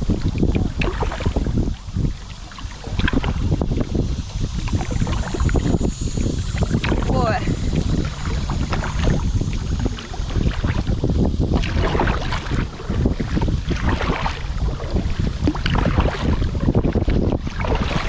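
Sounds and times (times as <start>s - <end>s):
river water rushing and splashing: 0.0s - 3.6s, 4.6s - 18.0s
wind buffeting microphone: 0.0s - 18.0s.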